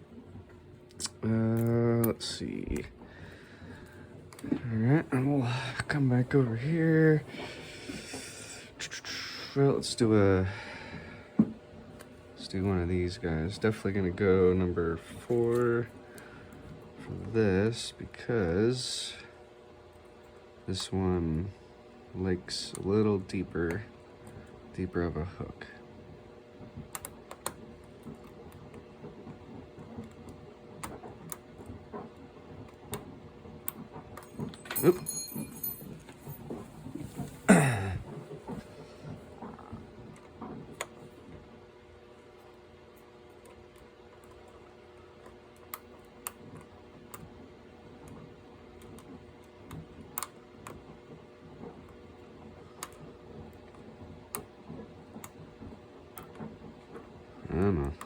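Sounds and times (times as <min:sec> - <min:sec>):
faint hum of household machinery: 0:00.0 - 0:58.0.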